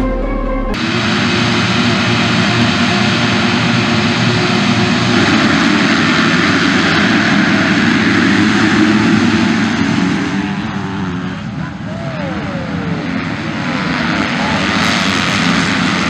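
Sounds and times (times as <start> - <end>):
motocross bikes revving at full throttle: 0.8 - 16.0.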